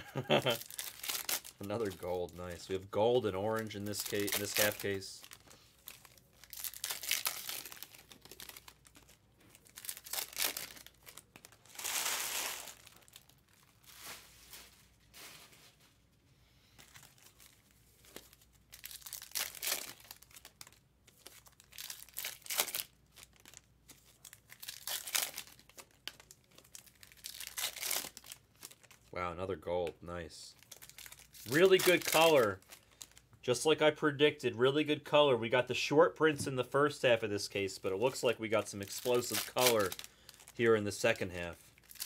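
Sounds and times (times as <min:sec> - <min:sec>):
foil wrappers tearing and crinkling: 0:00.2 - 0:15.8, 0:16.8 - 0:29.1, 0:30.6 - 0:33.2, 0:38.1 - 0:42.0.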